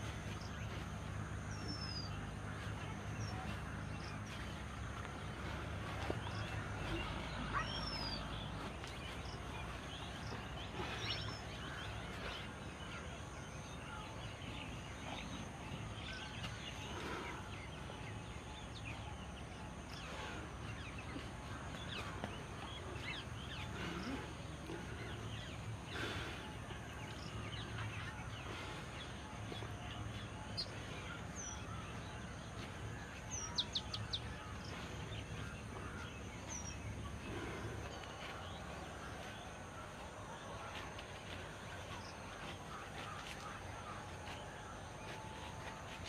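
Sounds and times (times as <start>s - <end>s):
birds chirping and calling: 0.0s - 46.0s
low background noise: 0.0s - 46.0s.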